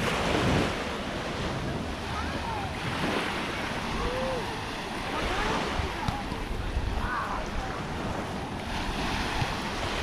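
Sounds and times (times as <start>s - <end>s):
small surf on sandy beach: 0.0s - 10.0s
wind buffeting microphone: 0.0s - 10.0s.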